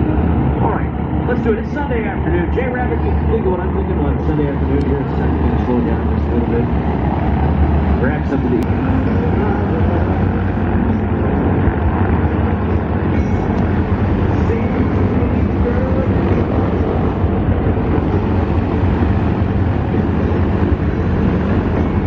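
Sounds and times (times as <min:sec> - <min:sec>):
aircraft engines rumbling: 0:00.0 - 0:22.0
faint voices: 0:00.0 - 0:22.0
wind buffeting microphone: 0:00.0 - 0:22.0.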